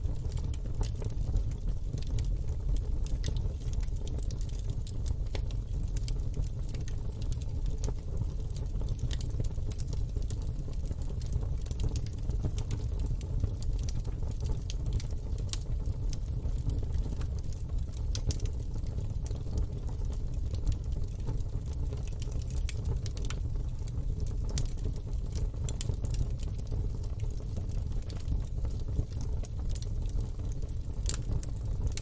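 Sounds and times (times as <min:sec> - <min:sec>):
fire crackling and popping: 0:00.0 - 0:32.0
fire low rumble: 0:00.0 - 0:32.0.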